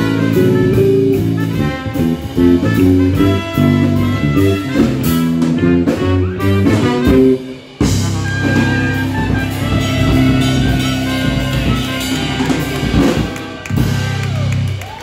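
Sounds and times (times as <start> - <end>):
jazz band playing: 0.0 - 15.0.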